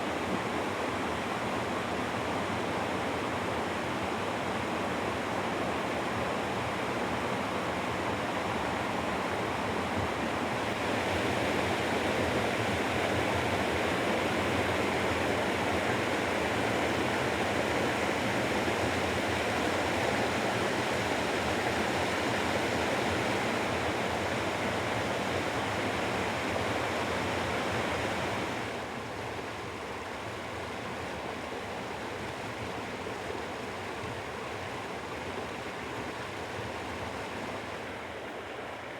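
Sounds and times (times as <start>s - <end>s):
stream water rushing over rocks: 0.1s - 38.9s.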